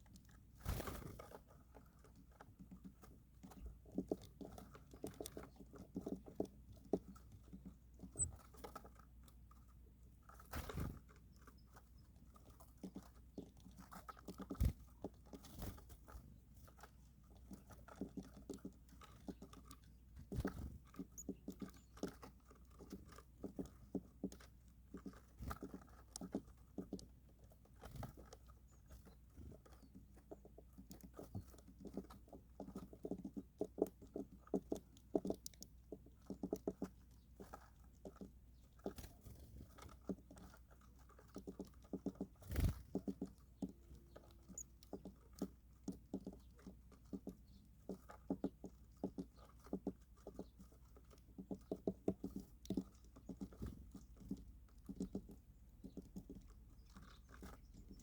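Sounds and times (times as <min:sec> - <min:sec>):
birds pecking and cracking seeds: 0:00.0 - 0:58.0.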